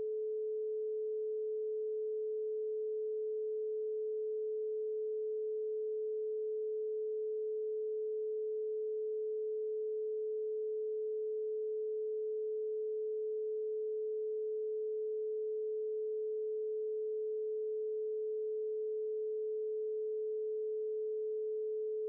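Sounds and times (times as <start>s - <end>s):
steady sine tone: 0.0s - 22.0s.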